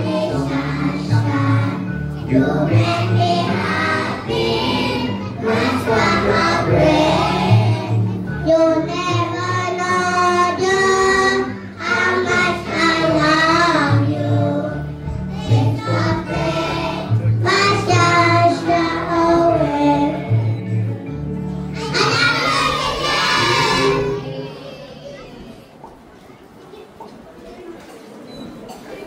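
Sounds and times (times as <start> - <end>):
children singing: 0.0 - 20.6, 21.8 - 25.2
musical backing with bass line: 0.0 - 24.4.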